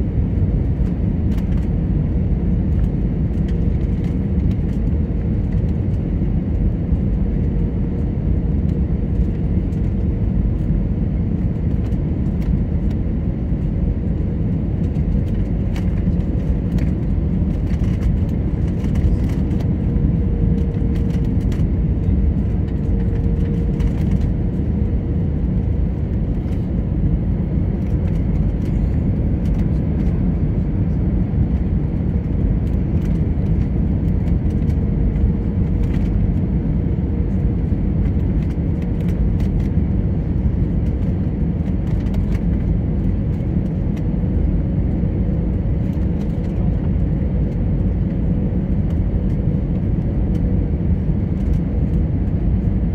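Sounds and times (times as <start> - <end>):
airplane cabin engine rumble: 0.0 - 52.9.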